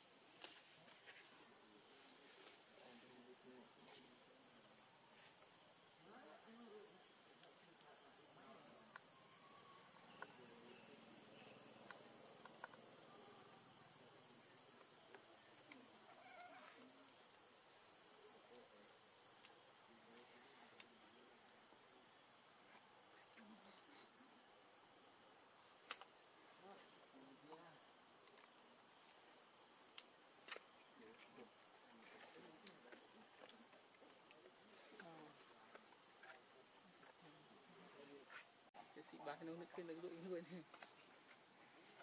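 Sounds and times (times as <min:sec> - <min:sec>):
insects buzzing: 0:00.0 - 0:42.0.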